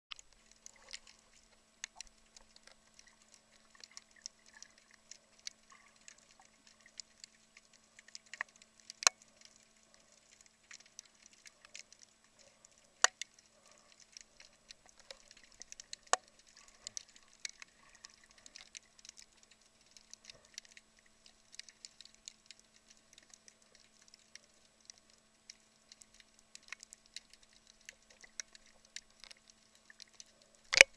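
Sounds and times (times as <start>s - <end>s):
faint steady hum: 0.1s - 30.9s
snapping shrimp clicks underwater: 0.1s - 30.9s.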